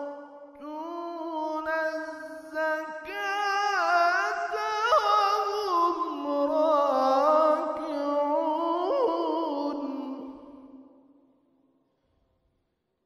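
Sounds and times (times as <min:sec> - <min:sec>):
man reciting melodically: 0:00.0 - 0:10.8.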